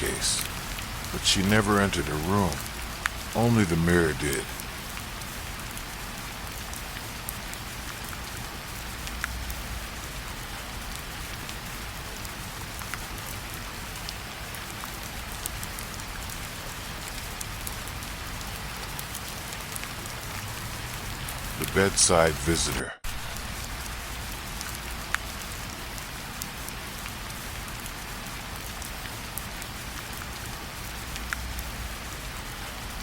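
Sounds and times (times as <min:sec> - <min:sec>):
raindrops ticking: 0:00.0 - 0:22.4, 0:23.1 - 0:33.0
steady rain hiss: 0:00.0 - 0:33.0.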